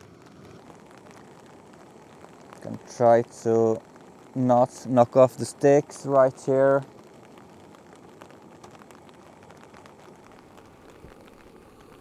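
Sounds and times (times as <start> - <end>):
rain on a tarp: 0.0 - 12.0.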